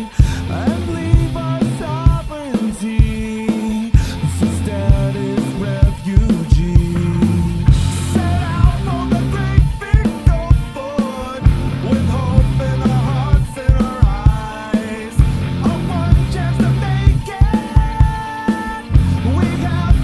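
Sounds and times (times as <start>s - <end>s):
heavy bass: 0.0s - 2.4s, 3.9s - 10.8s, 11.4s - 20.0s
drum kit beat: 0.0s - 20.0s
person singing: 0.0s - 20.0s.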